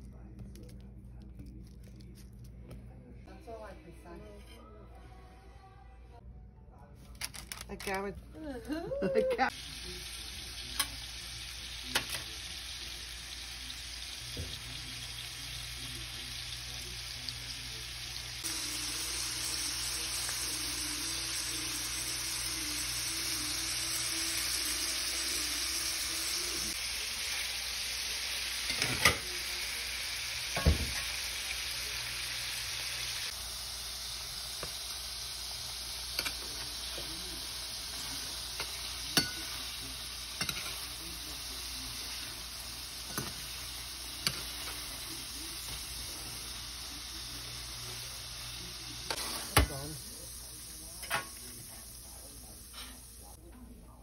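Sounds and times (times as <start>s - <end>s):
meat sizzling in oil: 9.4s - 53.3s.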